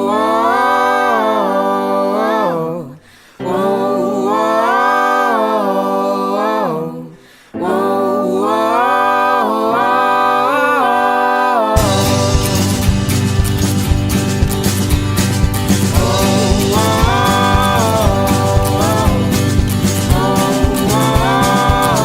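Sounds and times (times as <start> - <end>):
a cappella vocal harmonies: 0.0 - 14.5, 15.5 - 22.0.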